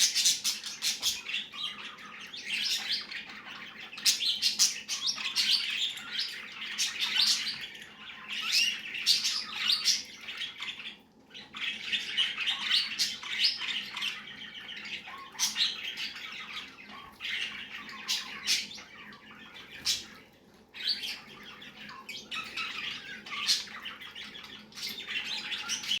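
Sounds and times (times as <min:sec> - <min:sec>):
budgerigar chattering and chirping: 0:00.0 - 0:26.0.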